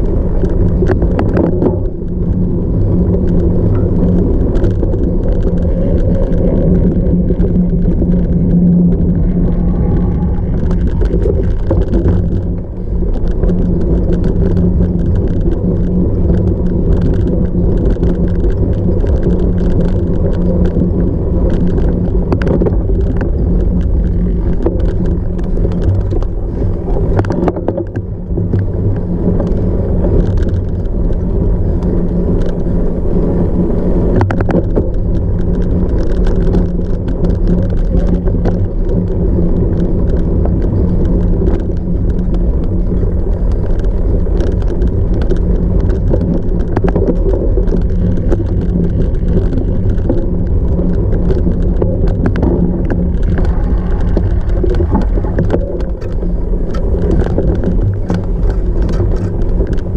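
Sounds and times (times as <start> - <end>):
bike knocks and rattles: 0.0 - 59.9
bike tyres rumbling off-road: 0.0 - 59.9.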